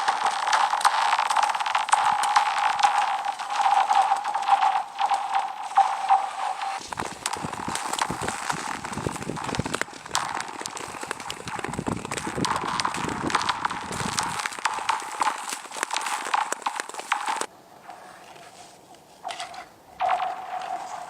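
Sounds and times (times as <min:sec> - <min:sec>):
clicks and knocks on lake ice: 0:00.0 - 0:17.5, 0:19.2 - 0:21.0.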